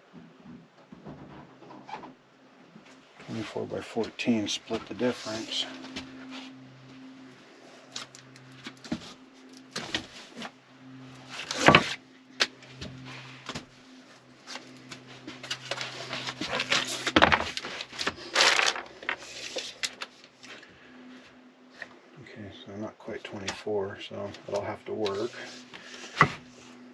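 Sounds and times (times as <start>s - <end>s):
low hum: 2.4s - 26.9s
rustling and scraping: 2.8s - 22.0s, 24.4s - 26.9s.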